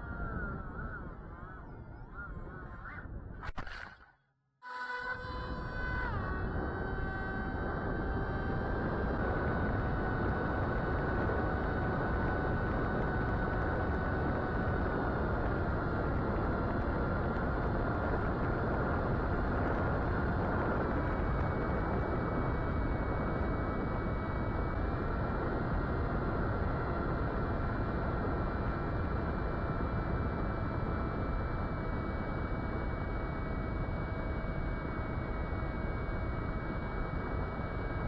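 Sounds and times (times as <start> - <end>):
higher whine: 0.0 - 38.0
electric motor whine: 4.7 - 38.0.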